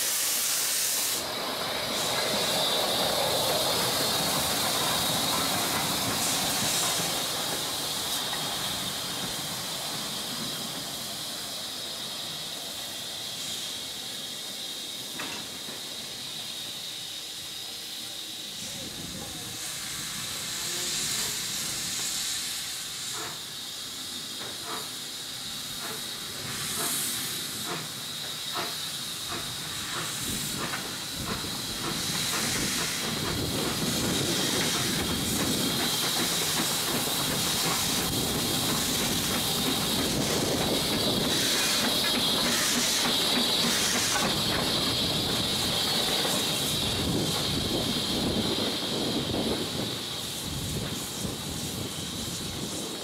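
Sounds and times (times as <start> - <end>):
steam hissing: 0.0 - 53.0
steam locomotive exhaust beats: 0.0 - 53.0.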